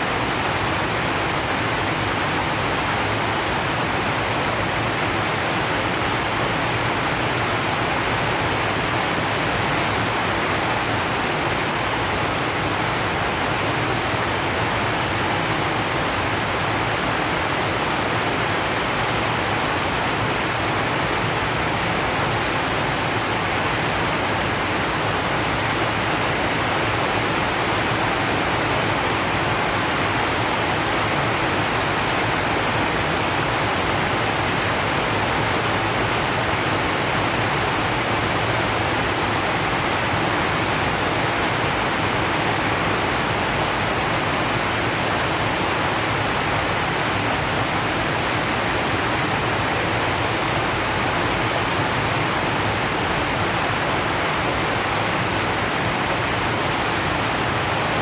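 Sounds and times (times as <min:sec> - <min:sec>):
heavy rain on metal roof: 0:00.0 - 0:58.0.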